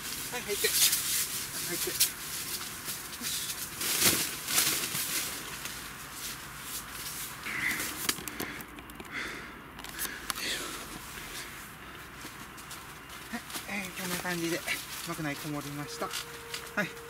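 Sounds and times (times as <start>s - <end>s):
tent fabric rustling: 0.0s - 8.2s, 10.7s - 17.0s.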